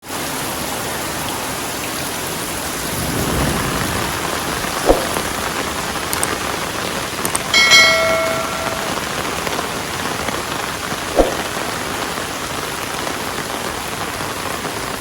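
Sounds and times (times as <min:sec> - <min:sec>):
heavy rain falling: 0:00.1 - 0:15.0.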